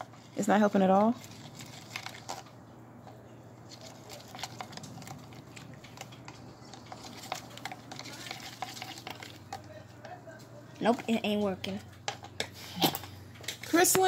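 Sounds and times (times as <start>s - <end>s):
slime being stirred: 0.0s - 12.6s.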